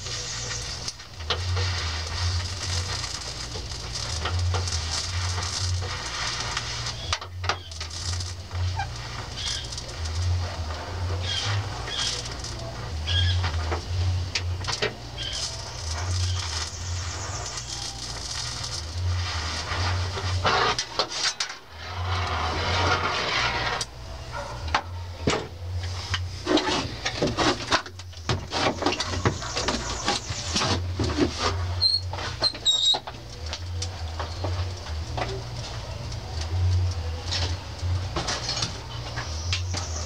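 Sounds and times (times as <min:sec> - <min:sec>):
low electric hum: 0:00.0 - 0:40.0
welding crackling and clicks: 0:00.0 - 0:40.0.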